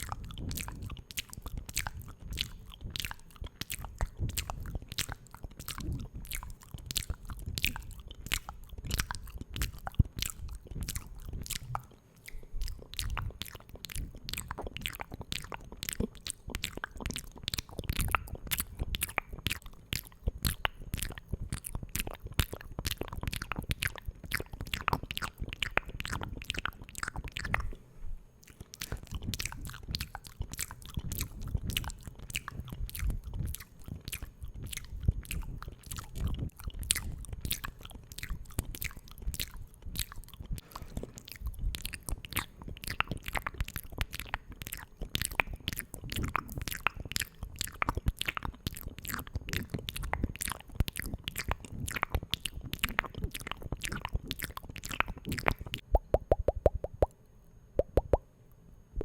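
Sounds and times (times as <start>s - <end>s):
wet lip and tongue clicking: 0.0s - 27.8s, 28.4s - 57.2s, 57.8s - 58.2s.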